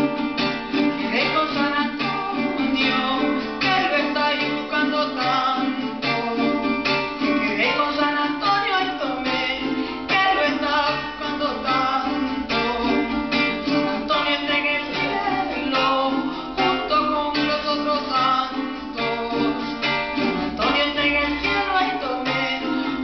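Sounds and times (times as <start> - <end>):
person singing: 0.0 - 23.0
strummed acoustic string instrument: 0.0 - 23.0.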